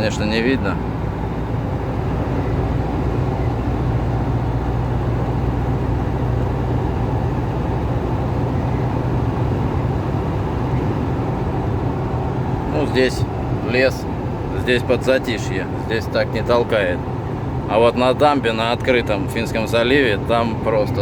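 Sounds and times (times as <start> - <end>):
road and wind noise inside car: 0.0 - 21.0.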